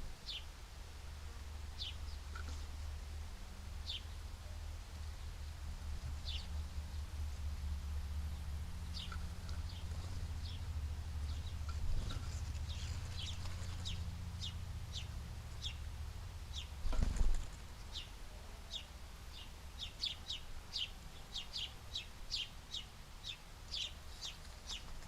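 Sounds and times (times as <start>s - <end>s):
small birds chirping: 0.0s - 0.6s, 1.3s - 2.9s, 3.7s - 25.0s
steady low hum: 0.0s - 25.0s.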